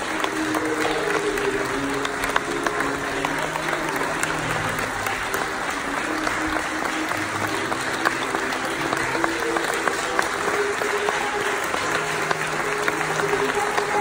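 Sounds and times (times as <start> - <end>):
crowd clapping: 0.0 - 14.0
faint music: 0.0 - 14.0.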